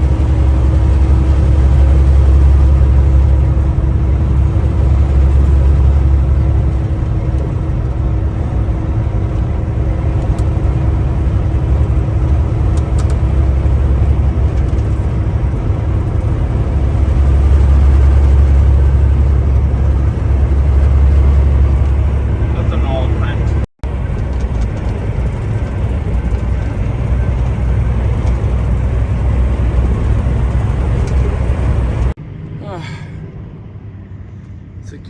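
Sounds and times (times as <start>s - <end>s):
truck diesel engine rumbling: 0.0s - 35.0s.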